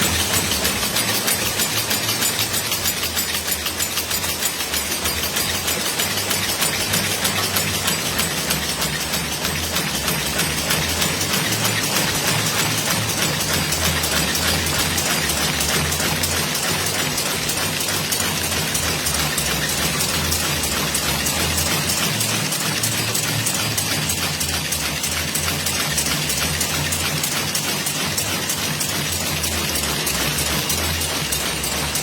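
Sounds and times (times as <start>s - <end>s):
rapid mechanical clatter: 0.0s - 32.0s.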